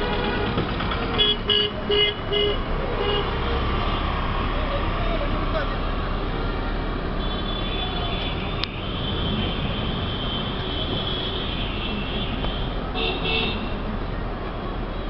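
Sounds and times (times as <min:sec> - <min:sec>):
rumble of engines and road noise: 0:00.0 - 0:15.0.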